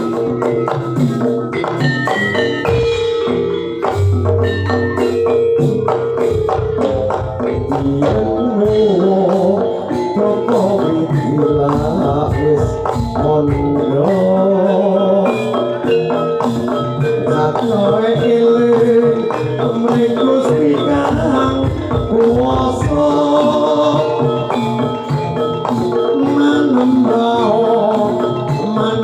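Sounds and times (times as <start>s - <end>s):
hand drums: 0.0s - 29.0s
struck metal percussion: 0.0s - 29.0s
wavering melodic lines: 0.0s - 29.0s.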